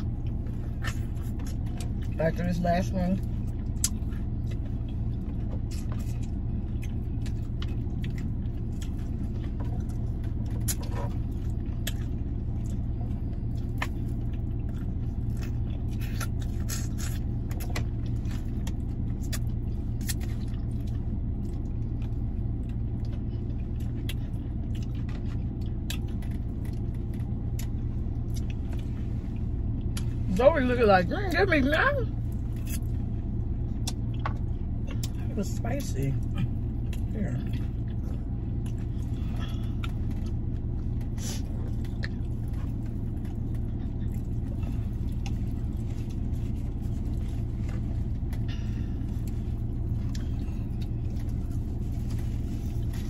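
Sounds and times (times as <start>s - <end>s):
car engine low hum: 0.0s - 53.0s.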